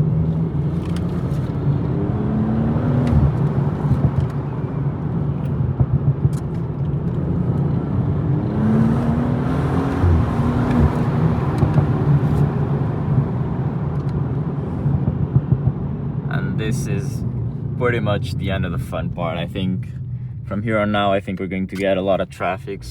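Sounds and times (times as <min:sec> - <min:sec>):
car engine droning: 0:00.0 - 0:22.9
road noise: 0:00.0 - 0:22.9.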